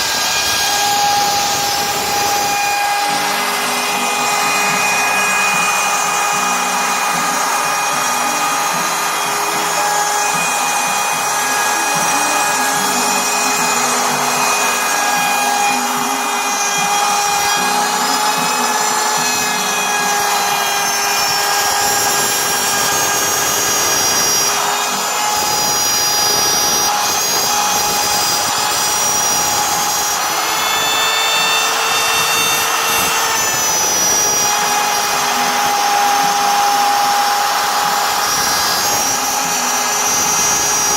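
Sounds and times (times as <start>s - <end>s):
machine motor whine: 0.0s - 40.9s.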